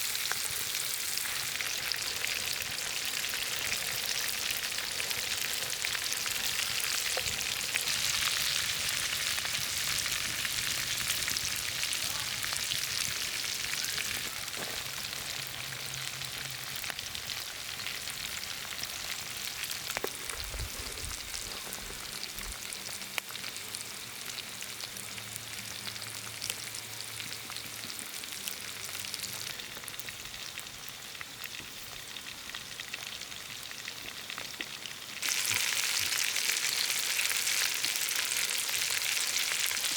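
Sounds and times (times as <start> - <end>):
food sizzling on a griddle: 0.0 - 39.9.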